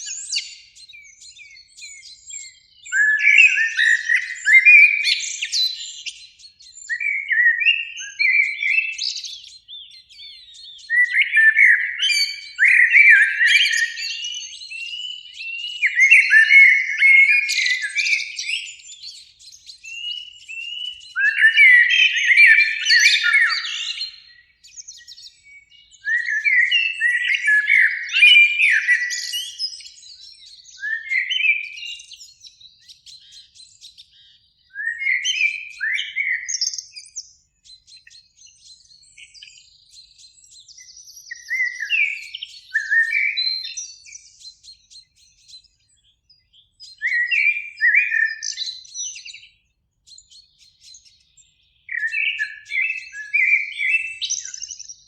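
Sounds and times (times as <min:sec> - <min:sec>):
blackbird singing: 0:00.0 - 0:55.0.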